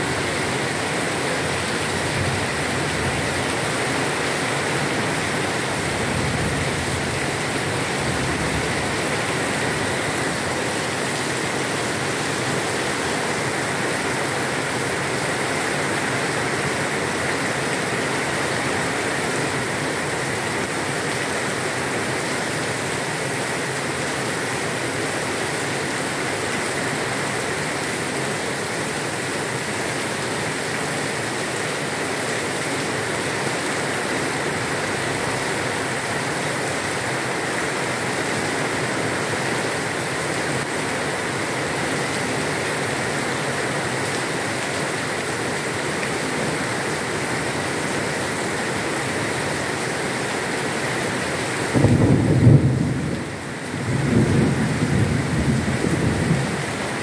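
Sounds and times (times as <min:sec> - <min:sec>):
heavy rain on leafy trees: 0:00.0 - 0:57.0.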